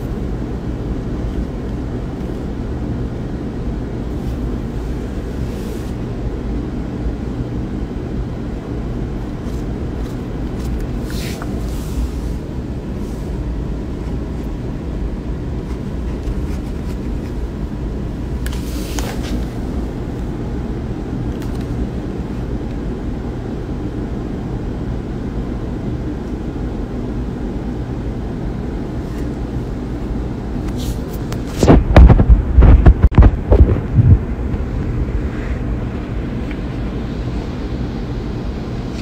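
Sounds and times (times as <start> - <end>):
low background rumble: 0.0 - 39.0.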